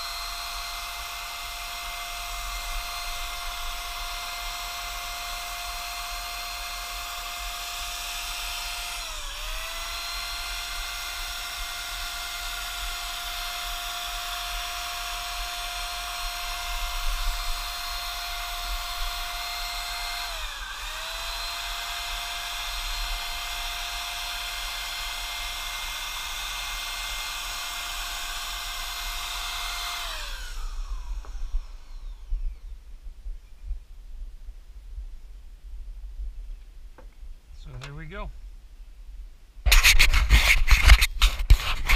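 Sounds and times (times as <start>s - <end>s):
paint spray gun motor whine: 0.0s - 33.2s, 39.7s - 41.9s.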